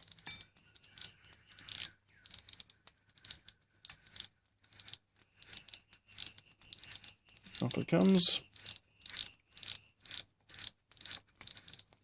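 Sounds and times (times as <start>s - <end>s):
light clicks of freewheel: 0.0s - 12.0s.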